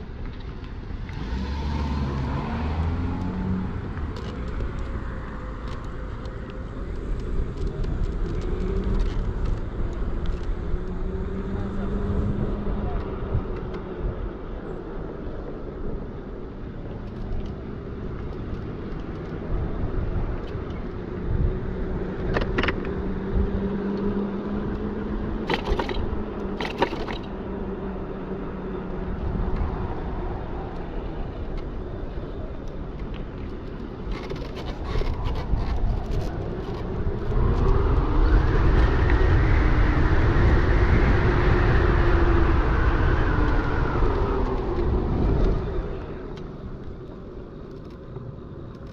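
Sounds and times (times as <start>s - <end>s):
wind noise: 0.0s - 48.9s.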